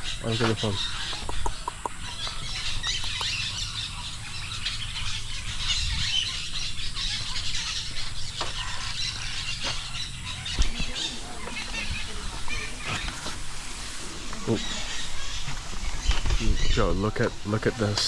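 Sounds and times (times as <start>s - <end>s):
birds chattering in chorus: 0.0s - 18.0s
low rumble of wind: 0.0s - 18.0s.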